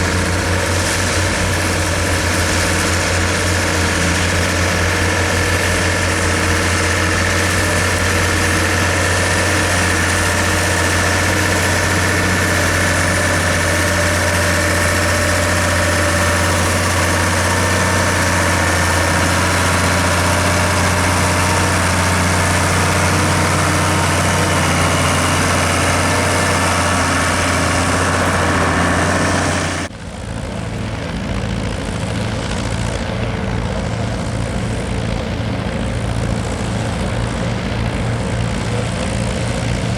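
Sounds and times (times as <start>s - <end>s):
diesel tractor engine running: 0.0s - 39.9s
quieter engine drone: 0.0s - 39.9s.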